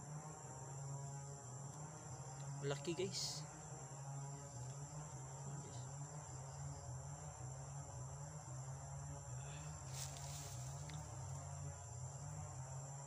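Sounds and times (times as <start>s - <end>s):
low uneven hum: 0.0s - 13.0s.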